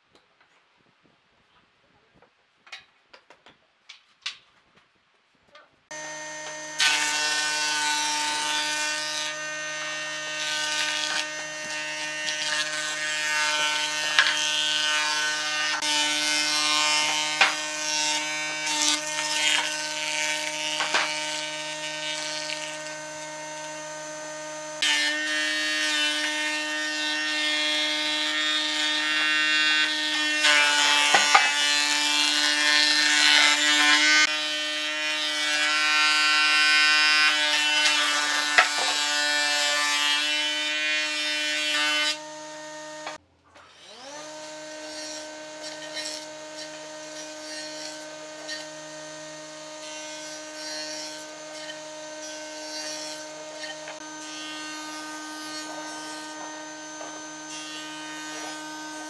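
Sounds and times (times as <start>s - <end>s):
wood being planed: 5.9s - 59.0s
woodworking machine motor whine: 5.9s - 59.0s.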